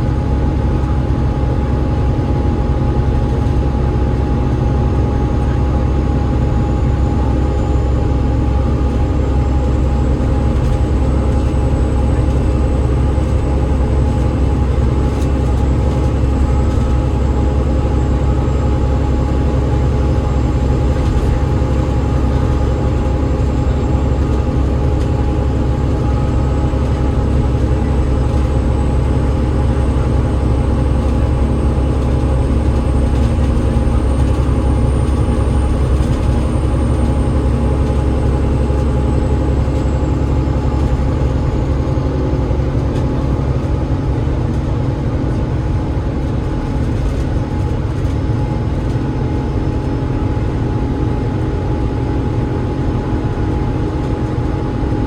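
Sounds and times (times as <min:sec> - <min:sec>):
bus drivetrain drone: 0:00.0 - 0:55.0.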